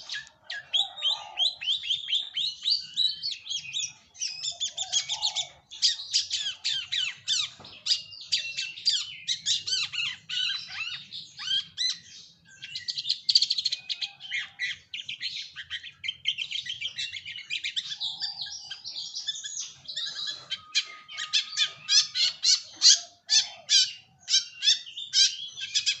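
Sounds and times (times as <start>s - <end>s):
bird chattering song: 0.0s - 26.0s.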